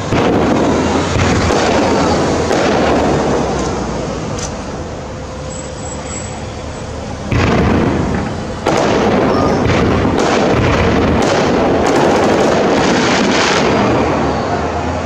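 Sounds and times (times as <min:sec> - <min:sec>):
fireworks bangs and pops: 0:00.0 - 0:04.9, 0:06.7 - 0:15.0.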